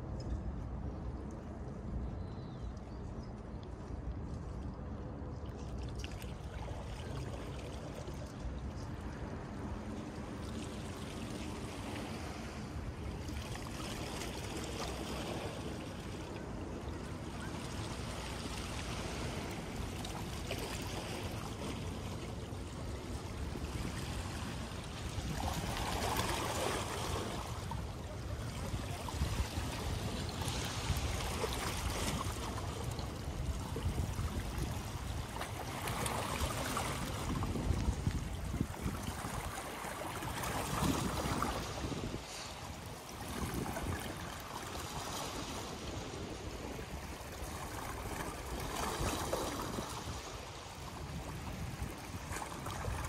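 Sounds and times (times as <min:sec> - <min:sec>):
small waves lapping: 0:02.7 - 0:53.0.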